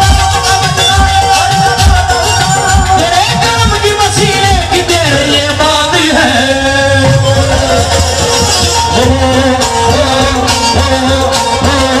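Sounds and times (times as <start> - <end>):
harmonium melody: 0.0 - 12.0
heavy bass and drum beats: 0.0 - 12.0.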